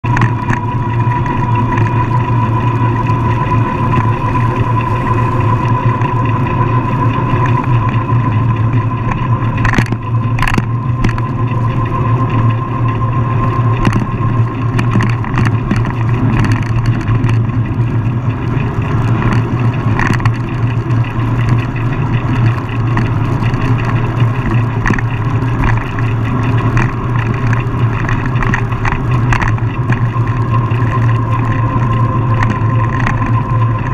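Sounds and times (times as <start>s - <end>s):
high steady whine: 0.0s - 33.9s
vehicle engine running: 0.0s - 33.9s.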